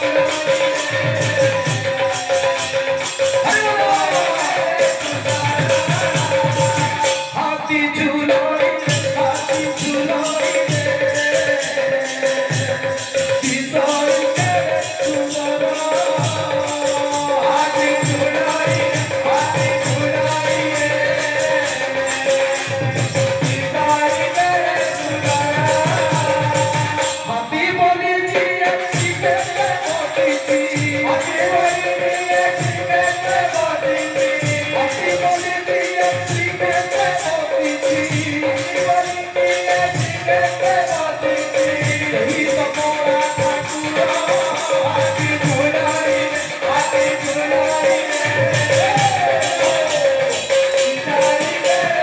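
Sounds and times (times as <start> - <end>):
drum beating: 0.0 - 52.0
jingling percussion: 0.0 - 52.0
men singing: 0.0 - 52.0.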